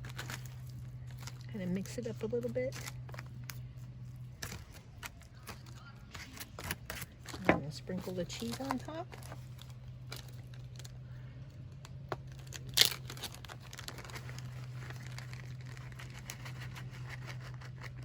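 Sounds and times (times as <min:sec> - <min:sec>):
foil crinkling: 0:00.0 - 0:18.0
steady low hum: 0:00.0 - 0:18.0.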